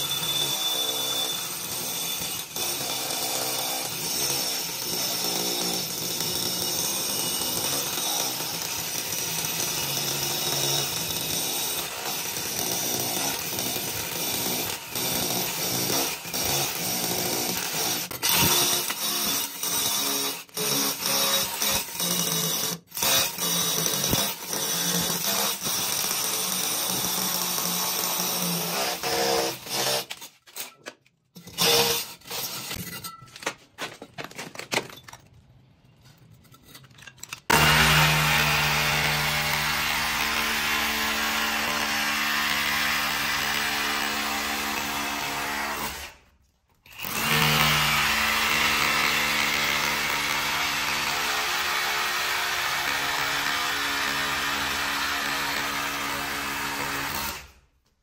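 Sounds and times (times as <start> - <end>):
rotary hammer drilling masonry: 0.0 - 35.0, 36.3 - 57.6.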